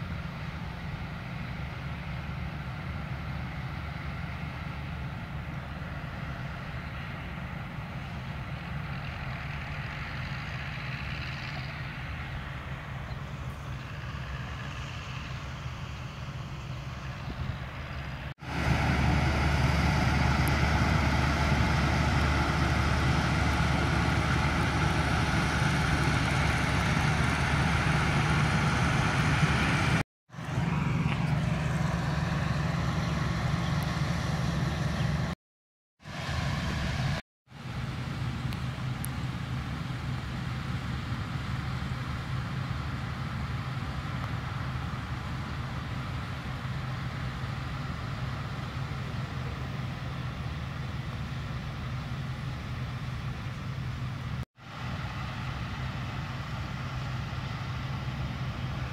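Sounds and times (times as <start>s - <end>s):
combine harvester diesel engine: 0.0s - 35.4s, 36.0s - 58.9s.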